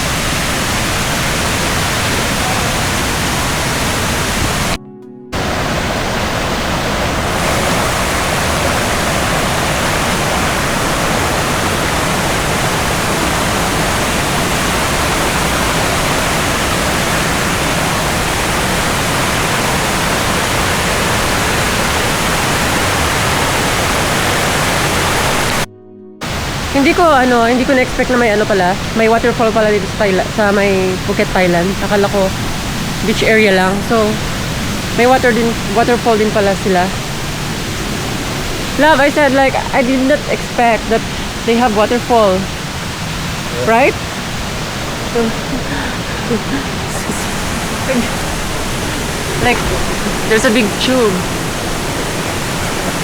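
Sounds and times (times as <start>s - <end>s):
waterfall rushing: 0.0s - 4.8s, 5.4s - 53.0s.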